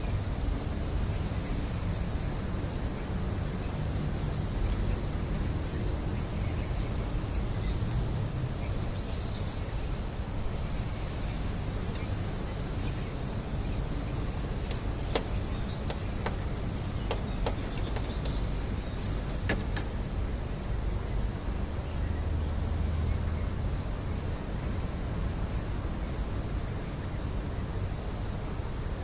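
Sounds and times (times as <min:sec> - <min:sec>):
small birds chirping: 0:00.0 - 0:25.1
low outdoor rumble: 0:00.0 - 0:29.0.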